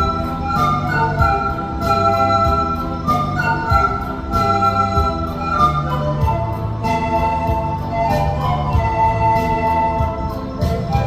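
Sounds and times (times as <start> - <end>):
pan flute ensemble playing: 0.0 - 11.0.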